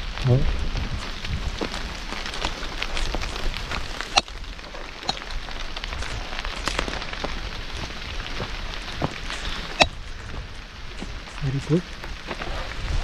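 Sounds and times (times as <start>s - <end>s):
heavy rain falling: 0.0s - 13.0s
raindrops tapping close by: 0.0s - 13.0s.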